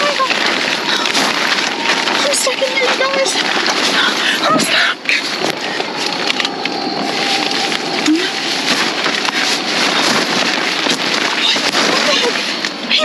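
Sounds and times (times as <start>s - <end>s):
fabric rustling against microphone: 0.0s - 13.0s
plastic tarp rubbing: 0.0s - 13.0s.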